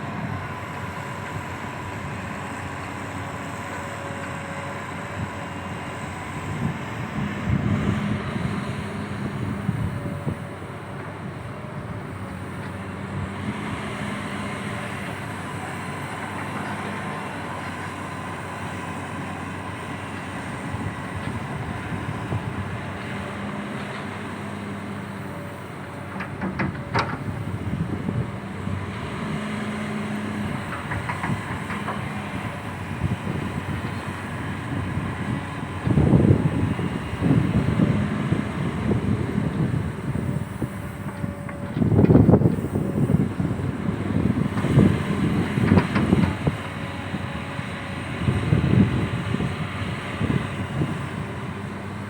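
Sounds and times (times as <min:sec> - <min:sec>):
excavator diesel engine running: 0:00.0 - 0:52.0.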